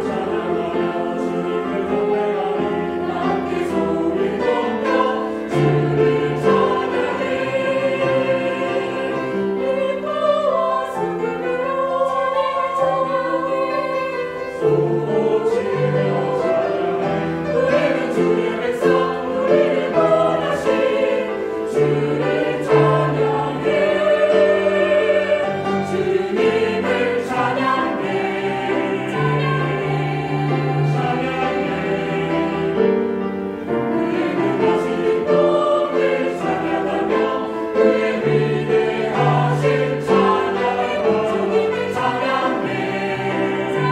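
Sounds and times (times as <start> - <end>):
church choir singing: 0.0 - 43.9.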